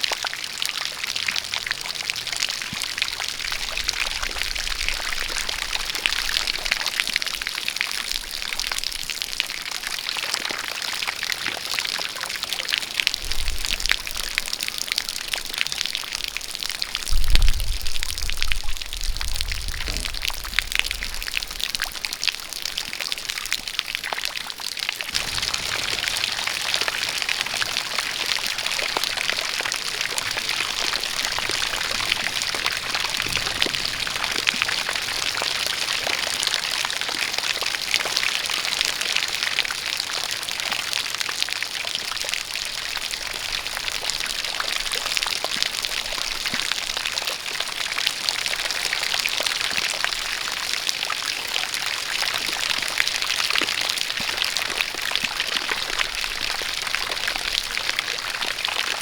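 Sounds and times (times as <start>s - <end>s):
steady rain falling: 0.0s - 59.0s
water pouring down: 0.0s - 59.0s.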